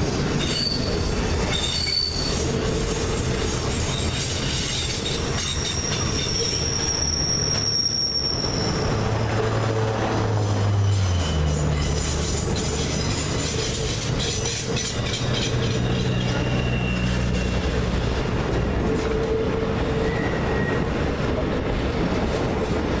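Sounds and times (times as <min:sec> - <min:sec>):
train wheels rumbling on rails: 0:00.0 - 0:23.0
wheel flanges squealing: 0:00.2 - 0:21.0.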